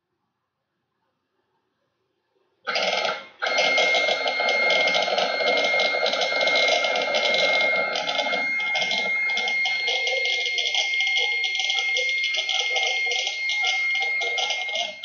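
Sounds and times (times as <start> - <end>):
lead screw high whine: 2.7 - 15.0.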